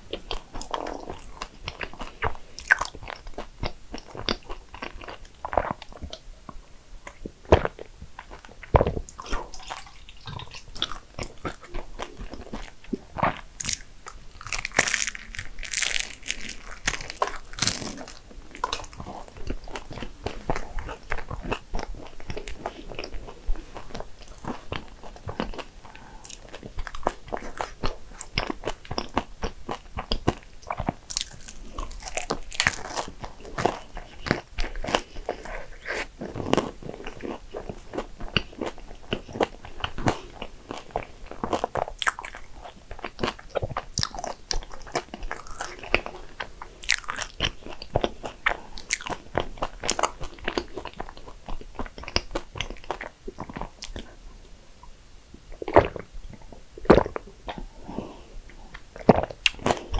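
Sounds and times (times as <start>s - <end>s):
crunchy pastry chewing: 0.0s - 6.2s, 7.0s - 54.2s.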